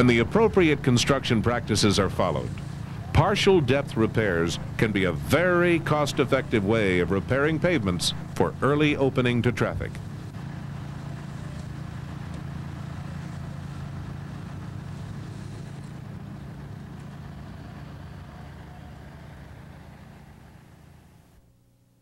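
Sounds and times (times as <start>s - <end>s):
truck engine running: 0.0s - 21.4s.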